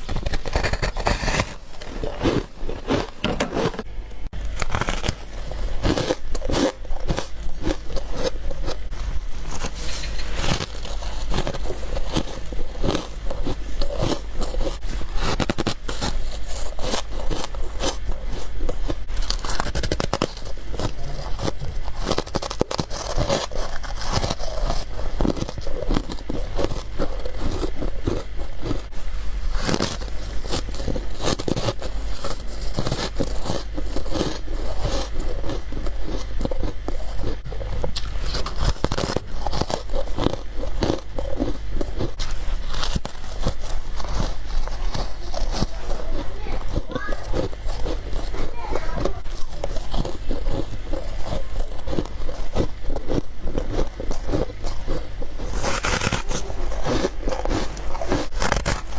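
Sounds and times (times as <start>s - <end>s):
ice being chewed: 0.0s - 58.9s
steady low hum: 0.0s - 58.9s.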